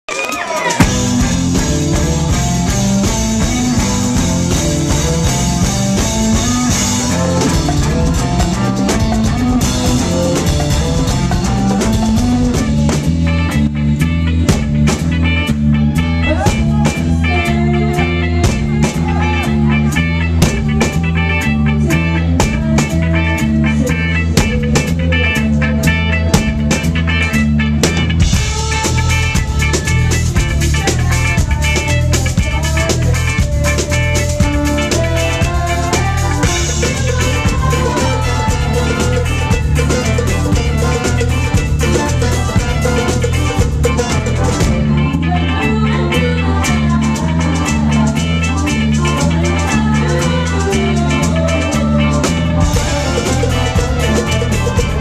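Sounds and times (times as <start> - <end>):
drum kit beat: 0.1 - 55.0
live rock band playing: 0.1 - 55.0.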